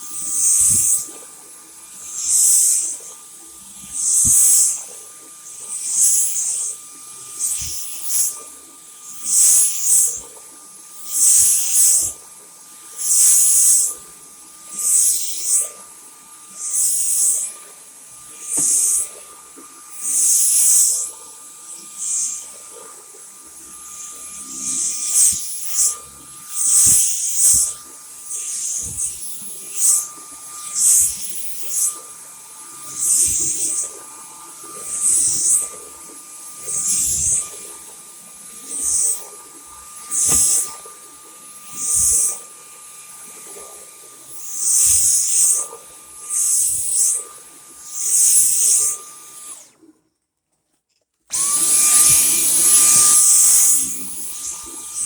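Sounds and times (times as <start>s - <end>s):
vacuum cleaner hiss: 0.0s - 49.7s, 51.3s - 55.0s
vacuum cleaner whine: 0.0s - 50.0s, 51.3s - 55.0s.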